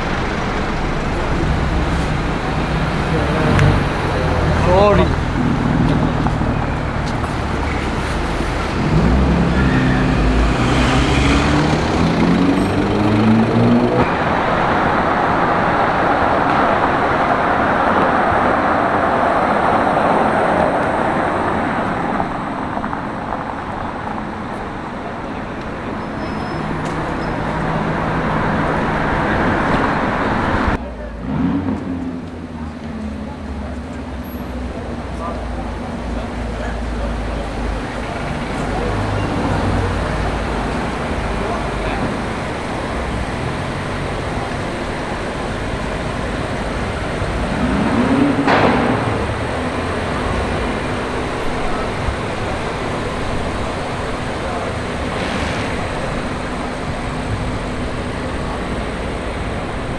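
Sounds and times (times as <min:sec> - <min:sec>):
car engine accelerating: 0:00.0 - 0:59.9
engine humming: 0:00.0 - 0:59.9
rush of passing traffic: 0:00.0 - 0:59.9.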